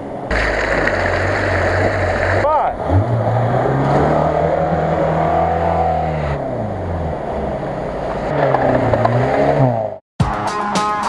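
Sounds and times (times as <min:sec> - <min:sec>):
water splashing around wheels: 0:00.0 - 0:10.0
off-road engine pulling under load: 0:00.3 - 0:10.0.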